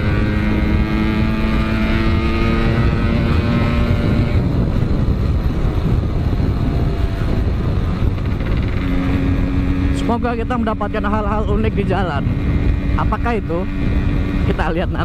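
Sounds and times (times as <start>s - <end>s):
motorcycle engine running: 0.0s - 15.0s
wind rush on microphone: 0.0s - 15.0s.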